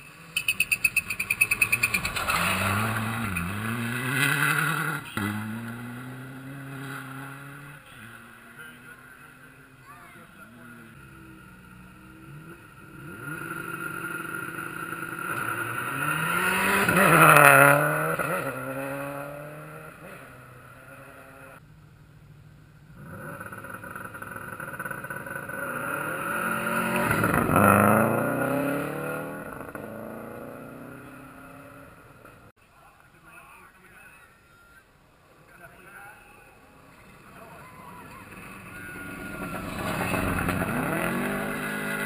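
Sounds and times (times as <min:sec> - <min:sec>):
rally cars passing at speed: 0:00.0 - 0:21.6, 0:22.9 - 0:32.5, 0:36.6 - 0:42.0.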